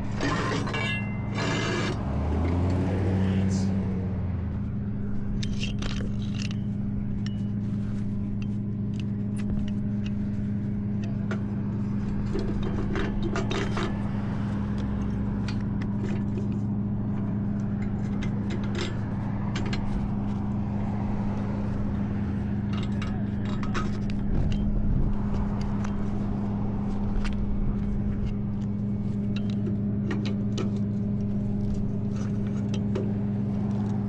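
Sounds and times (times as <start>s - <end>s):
metal clattering and scraping: 0.0s - 3.7s, 4.4s - 34.0s
metal gear clanking: 0.0s - 3.7s, 4.6s - 34.0s
truck engine idling: 0.0s - 34.0s.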